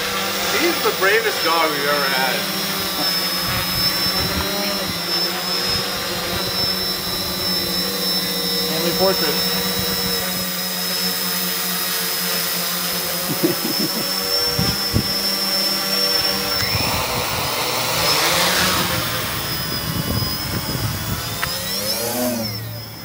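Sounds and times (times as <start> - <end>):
quadcopter rotors whining: 0.0 - 23.0.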